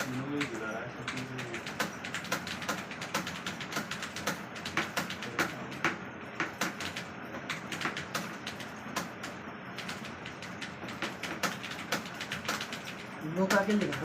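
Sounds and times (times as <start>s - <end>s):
keyboard typing clicks: 0.0s - 14.0s.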